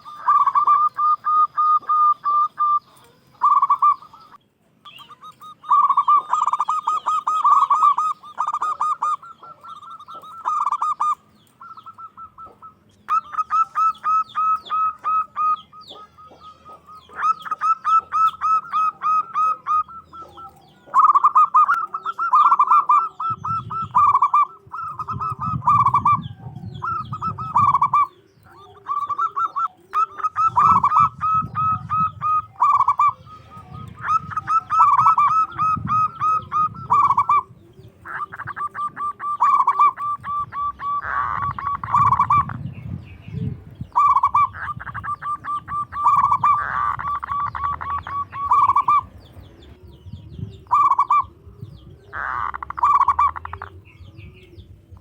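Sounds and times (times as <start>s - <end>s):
dove cooing: 0.0s - 55.0s
lower-pitched repeated bird notes: 0.0s - 55.0s.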